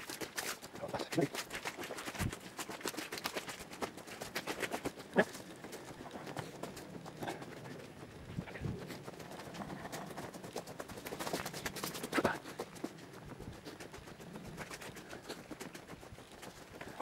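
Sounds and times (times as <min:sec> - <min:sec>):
footsteps on dirt path: 0:00.0 - 0:17.0.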